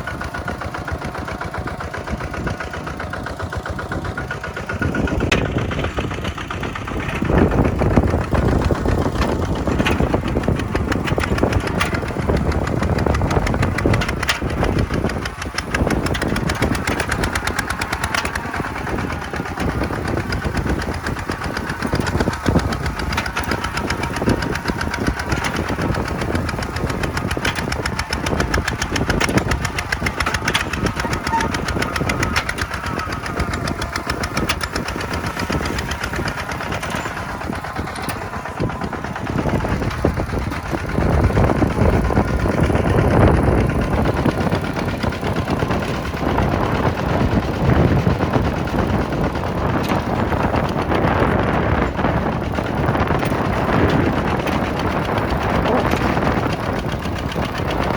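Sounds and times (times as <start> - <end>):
diesel tractor engine clattering: 0.0 - 57.9.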